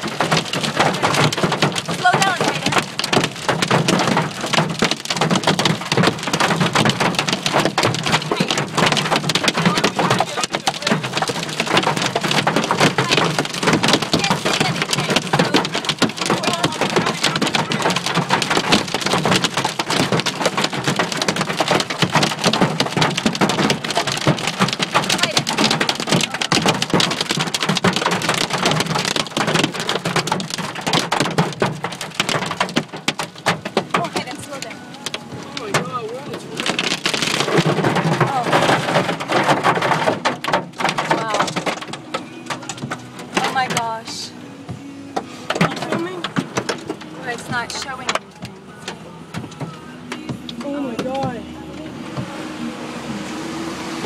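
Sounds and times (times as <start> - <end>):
hail clattering on car roof: 0.0 - 52.6.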